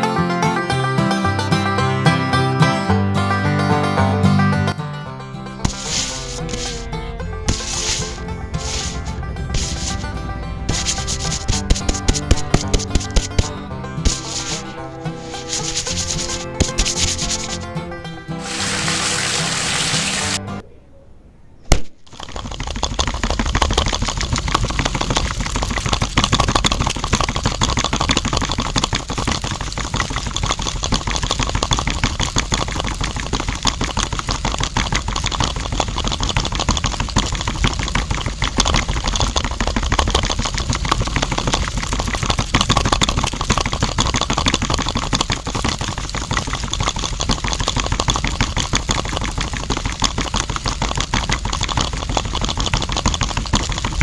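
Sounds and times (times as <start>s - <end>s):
concrete mixer motor and gears: 5.6s - 17.7s, 18.4s - 20.4s, 22.1s - 54.0s.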